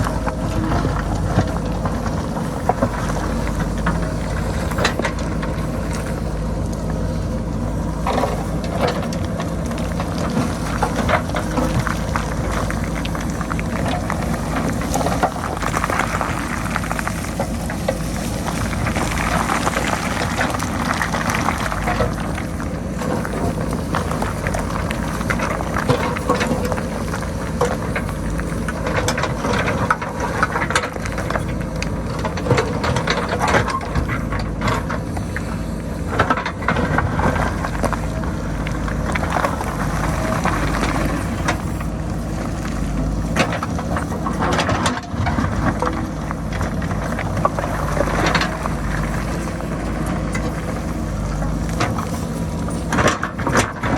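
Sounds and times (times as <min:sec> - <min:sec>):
diesel engine running: 0:00.0 - 0:53.9
rocks tumbling down slope: 0:00.0 - 0:53.9.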